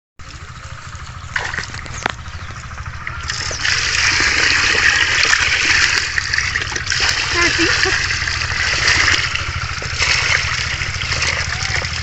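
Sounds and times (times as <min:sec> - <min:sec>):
water splashing and trickling: 0:00.2 - 0:12.0.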